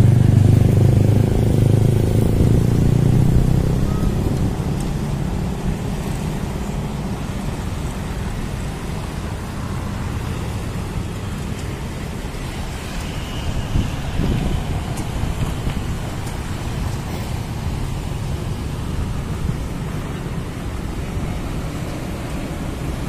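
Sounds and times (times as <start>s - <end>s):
steady traffic roar: 0.0s - 23.0s
vehicle engine hum: 0.0s - 23.0s.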